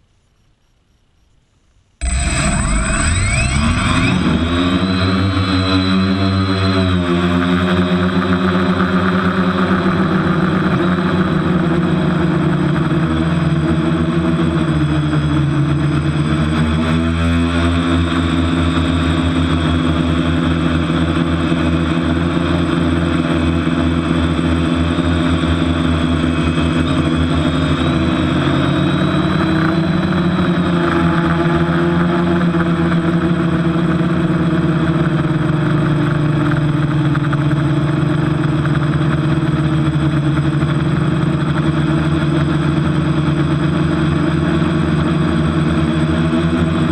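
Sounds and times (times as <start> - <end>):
drone motors humming: 2.0 - 16.5, 20.2 - 46.9.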